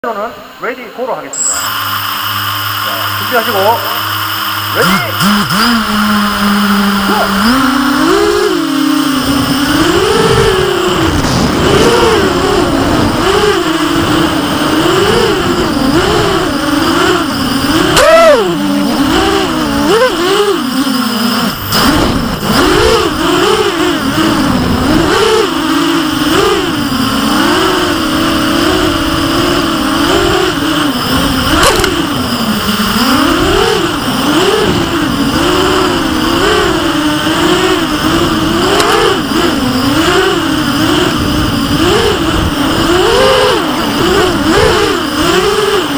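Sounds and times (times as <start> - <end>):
quadcopter motors buzzing: 1.4 - 45.9.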